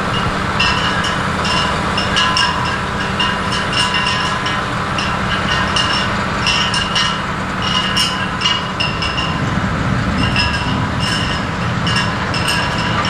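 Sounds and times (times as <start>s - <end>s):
harvesting machinery rumble: 0.0s - 13.0s
metallic squeaks and clinks: 0.0s - 13.0s.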